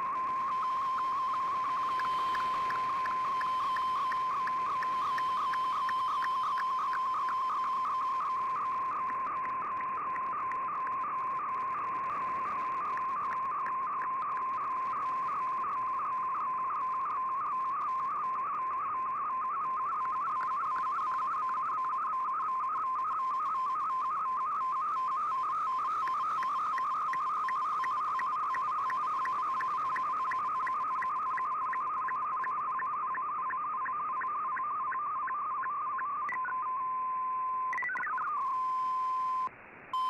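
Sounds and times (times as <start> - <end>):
warbling data tone: 0.0 - 40.0.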